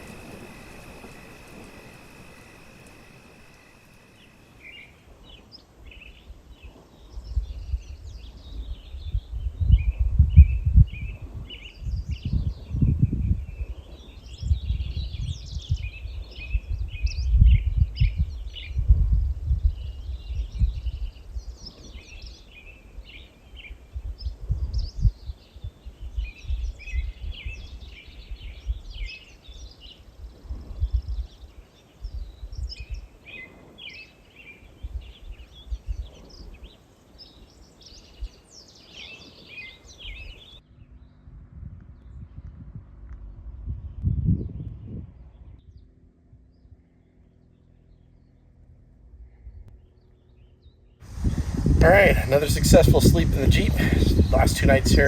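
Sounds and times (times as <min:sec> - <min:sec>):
songbirds chirping: 0:00.0 - 0:12.4, 0:19.6 - 0:41.3, 0:44.6 - 0:55.0
wind buffeting microphone: 0:00.0 - 0:46.6, 0:51.0 - 0:55.0.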